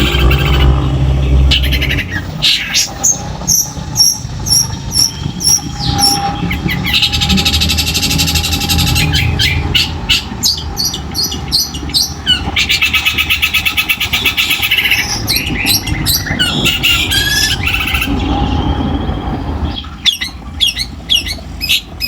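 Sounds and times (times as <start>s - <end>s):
bird singing harsh rapid trills: 0.0s - 22.0s
steady low rumble: 0.0s - 22.0s.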